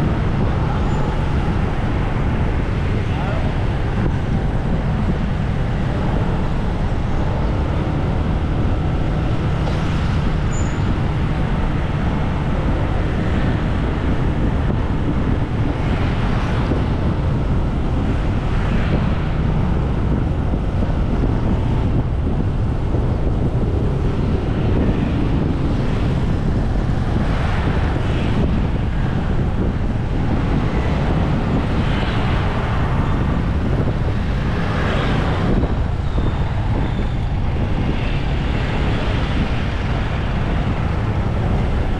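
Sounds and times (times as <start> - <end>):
road traffic noise: 0.0 - 41.9
wind on microphone: 0.0 - 41.9.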